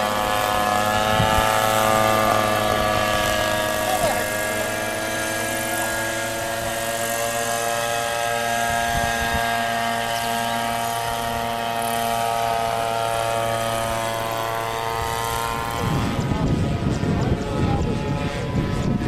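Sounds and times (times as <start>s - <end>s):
model helicopter droning whine: 0.0s - 19.0s.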